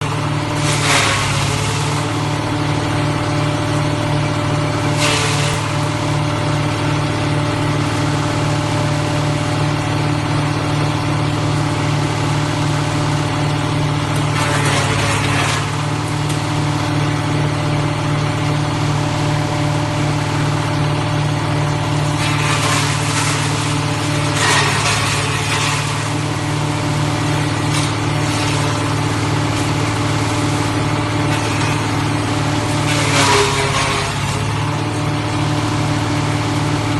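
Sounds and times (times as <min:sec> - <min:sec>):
wood chipper engine humming: 0:00.0 - 0:36.9.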